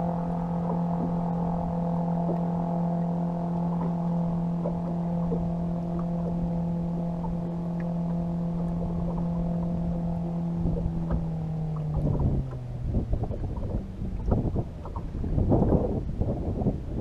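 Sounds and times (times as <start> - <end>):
electric boat motor humming: 0.0 - 17.0.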